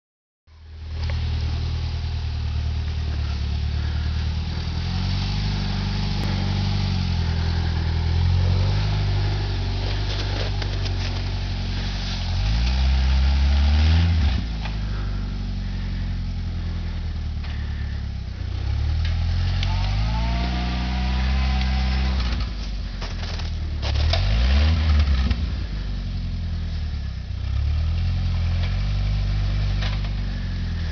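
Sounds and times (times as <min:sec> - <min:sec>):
engine revving at low revs: 0:00.7 - 0:30.9.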